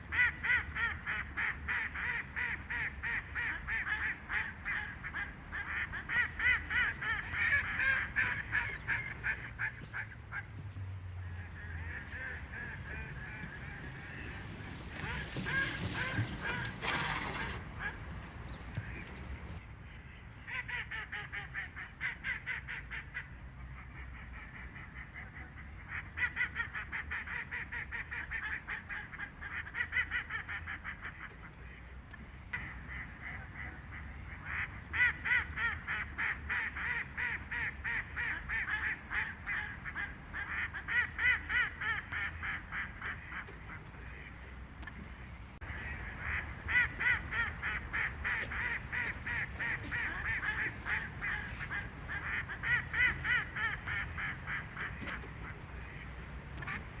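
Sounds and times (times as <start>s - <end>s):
ducks quacking: 0.1s - 10.6s, 11.2s - 31.4s, 32.5s - 45.0s, 45.6s - 57.0s.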